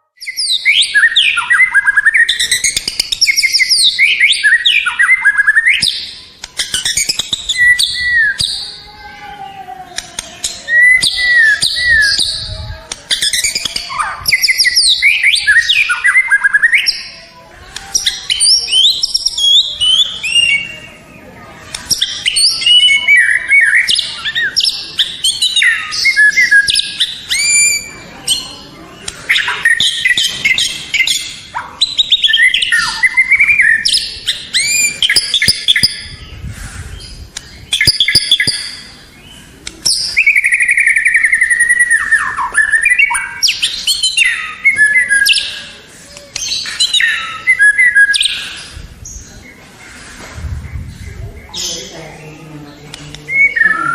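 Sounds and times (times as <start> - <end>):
songbird singing whistles and trills: 0.0 - 8.8, 10.0 - 17.2, 17.8 - 28.6, 29.3 - 45.8, 46.4 - 49.4, 53.1 - 53.9.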